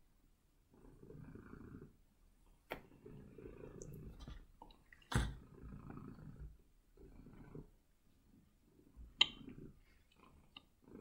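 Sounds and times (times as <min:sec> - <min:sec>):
cat purring: 0:00.1 - 0:11.0.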